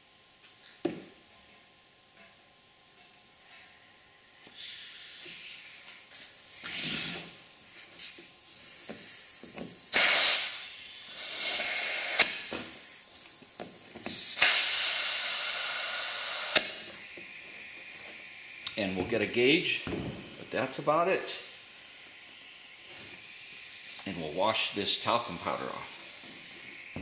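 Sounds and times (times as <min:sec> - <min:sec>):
compressed air hissing: 0:03.3 - 0:27.0.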